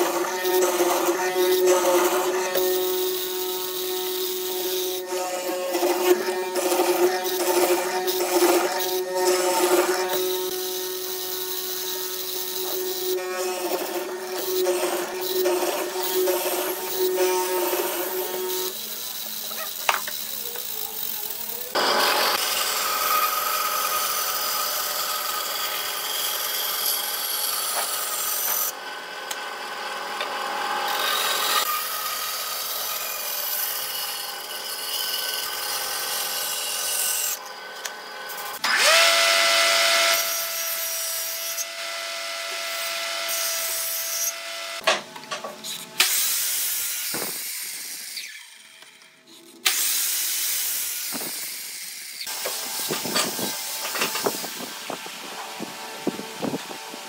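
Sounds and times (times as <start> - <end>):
mortising machine cutting wood: 0.0 - 49.0, 49.6 - 57.0
band saw cutting: 0.0 - 57.0.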